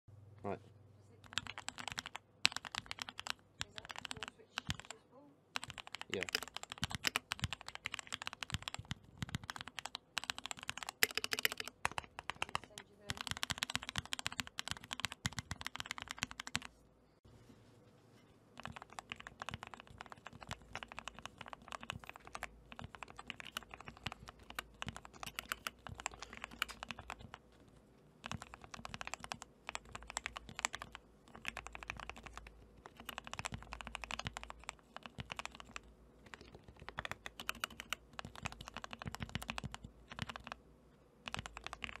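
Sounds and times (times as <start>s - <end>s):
mechanical keyboard typing: 1.2s - 16.7s, 18.6s - 27.5s, 28.2s - 40.6s, 41.2s - 42.0s.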